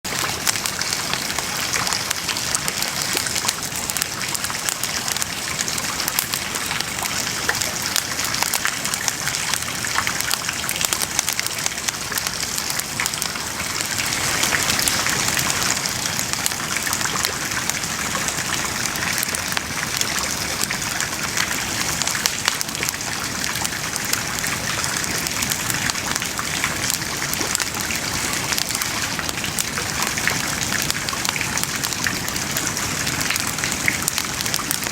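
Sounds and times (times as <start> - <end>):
burning wood crackling: 0.2 - 34.9.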